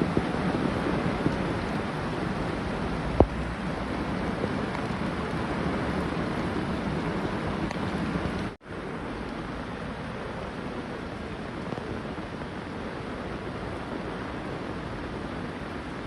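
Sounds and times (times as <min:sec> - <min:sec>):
torrential rain and floodwater rushing: 0:00.0 - 0:16.0.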